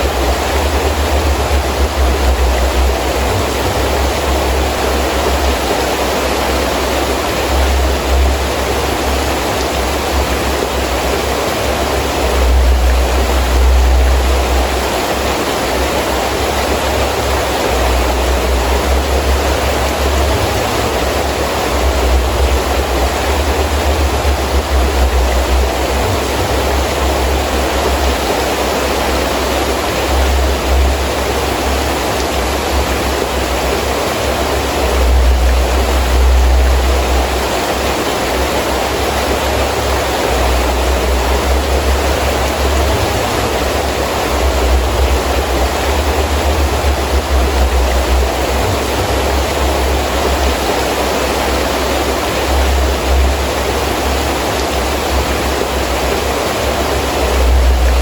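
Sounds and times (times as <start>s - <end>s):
gusting wind rumble: 0.0s - 58.0s
heavy rain falling: 0.0s - 58.0s.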